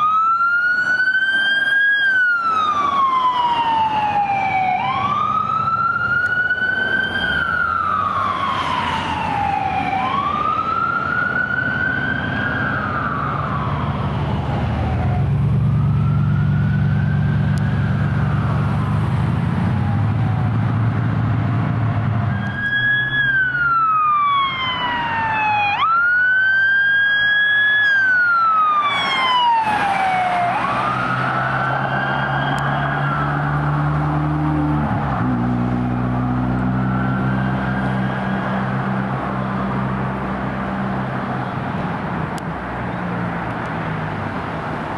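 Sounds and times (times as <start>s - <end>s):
emergency siren wailing: 0.0s - 44.9s
heavy vehicle engines rumbling: 0.0s - 44.9s.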